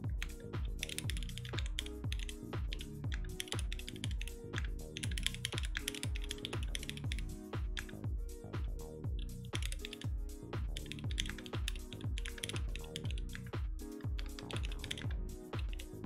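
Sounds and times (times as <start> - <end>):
electronic music with deep beat: 0.0 - 16.0
mechanical keyboard typing: 0.2 - 8.0, 9.2 - 10.1, 10.8 - 16.0.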